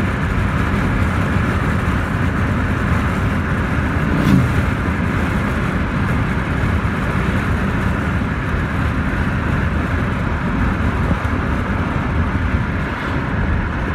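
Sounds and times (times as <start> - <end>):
car road and tyre noise: 0.0 - 13.9.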